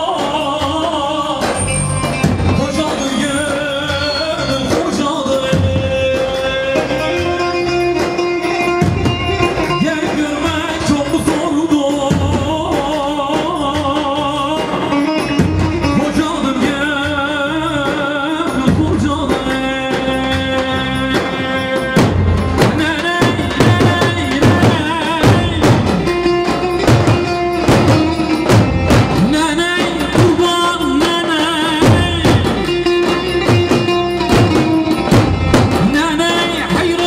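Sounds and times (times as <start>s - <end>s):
electric keyboard accompaniment: 0.0s - 37.0s.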